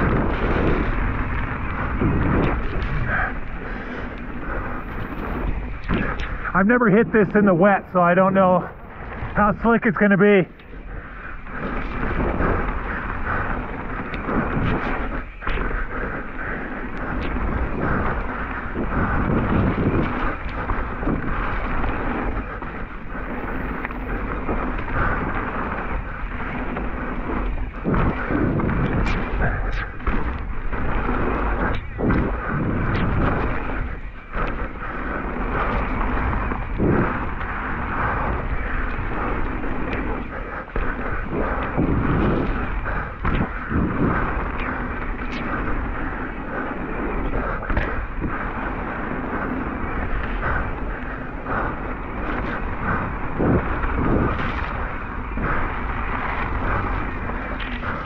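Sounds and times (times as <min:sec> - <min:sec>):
bike tyres rumbling on trail: 0:00.0 - 0:58.0
wind buffeting microphone: 0:00.0 - 0:58.0.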